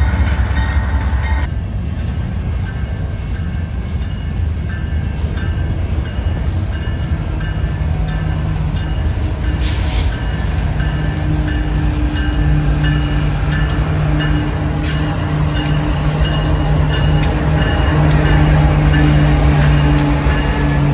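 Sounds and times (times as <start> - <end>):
train cars rumbling on rails: 0.0 - 20.9.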